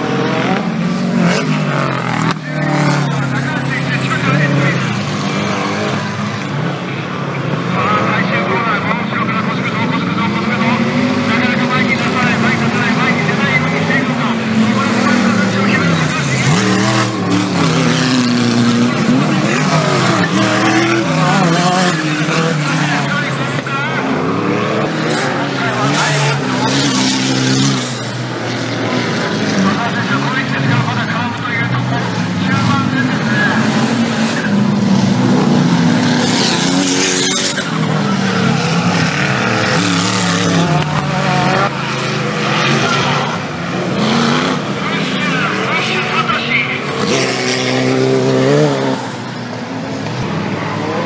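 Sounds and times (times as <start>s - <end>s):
off-road engines revving: 0.0s - 51.0s
tyres rushing on dirt: 0.0s - 51.0s.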